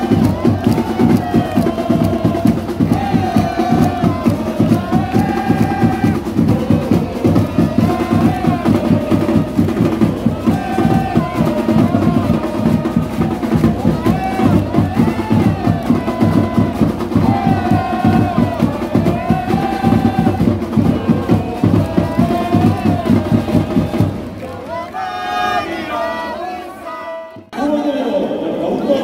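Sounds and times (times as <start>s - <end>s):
music with dense drumbeat: 0.0s - 24.6s.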